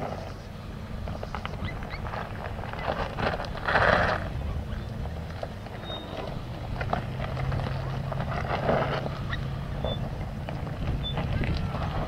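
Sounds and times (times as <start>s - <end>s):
rocks crunching under tyres: 0.0s - 12.0s
truck engine running at low revs: 0.0s - 12.0s.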